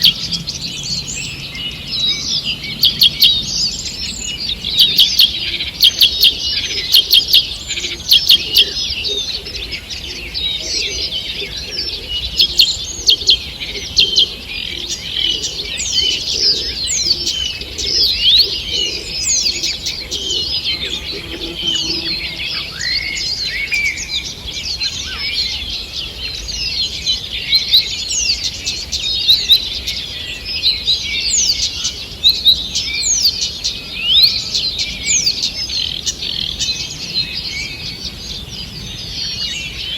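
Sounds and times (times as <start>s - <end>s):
birds singing in chorus: 0.0s - 39.9s.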